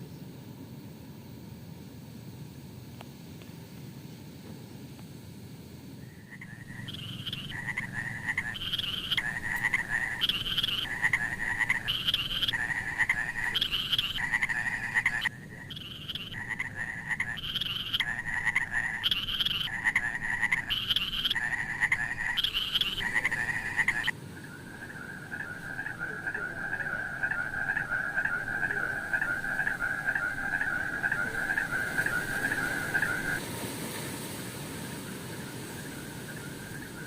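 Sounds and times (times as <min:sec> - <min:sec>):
frogs calling: 0:05.8 - 0:37.0.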